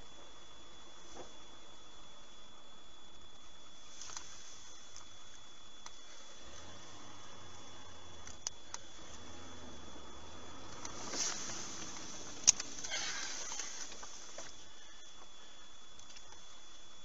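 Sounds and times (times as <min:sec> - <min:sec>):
vehicle cabin and road noise: 0:00.0 - 0:17.0.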